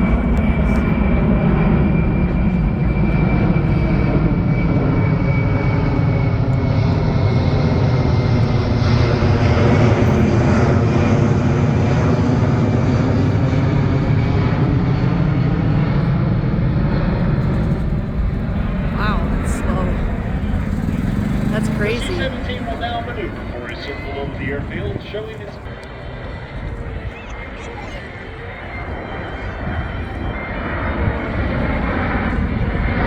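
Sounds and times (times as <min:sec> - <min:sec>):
high engine whine: 0:00.0 - 0:33.0
jet engines running: 0:00.0 - 0:33.0.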